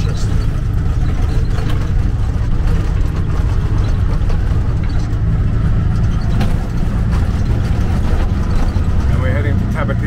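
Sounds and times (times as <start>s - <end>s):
rickshaw engine running: 0.0s - 10.0s
road rumble: 0.0s - 10.0s.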